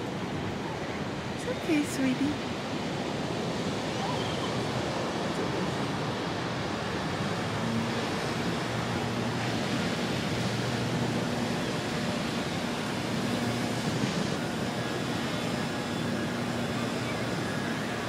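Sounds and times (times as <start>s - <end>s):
low engine hum: 0.0s - 18.0s
ocean surf: 0.0s - 18.0s
wind: 0.0s - 18.0s.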